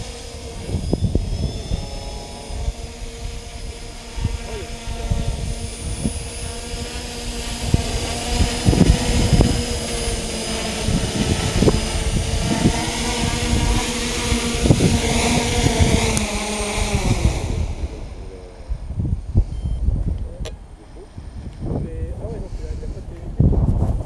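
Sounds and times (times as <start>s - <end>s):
drone motors whining: 0.0s - 23.2s
wind thumps on microphone: 0.0s - 24.0s.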